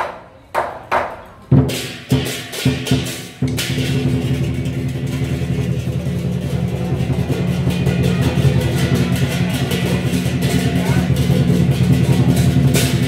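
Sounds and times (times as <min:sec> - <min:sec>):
drum roll: 0:01.5 - 0:13.0
crashing cymbals: 0:01.7 - 0:13.0.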